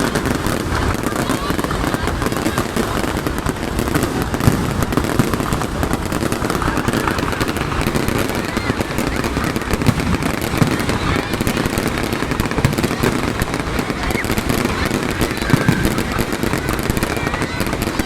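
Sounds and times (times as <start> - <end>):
fireworks crackling: 0.0 - 18.0
loud firework pops: 0.0 - 18.0.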